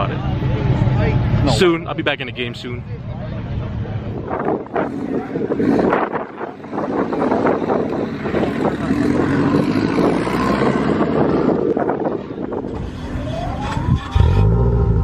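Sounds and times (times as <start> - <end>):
car engines running: 0.0 - 15.0
loud low engine rumble: 0.0 - 15.0.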